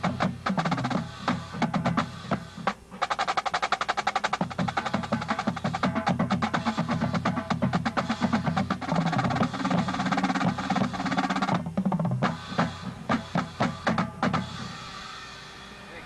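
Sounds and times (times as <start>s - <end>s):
snare drums playing rolls: 0.0s - 15.1s.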